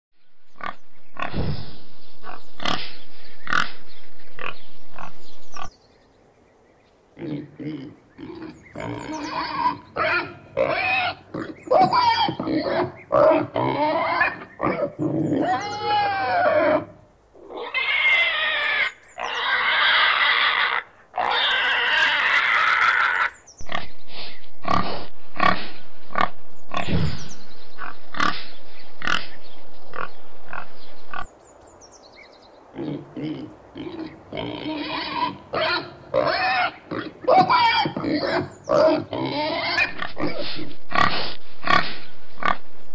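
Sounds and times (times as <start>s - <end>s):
pig grunting: 0.6s - 3.8s, 7.2s - 31.3s, 32.7s - 42.6s
pig squealing: 2.2s - 3.8s, 8.2s - 31.3s, 32.8s - 42.6s.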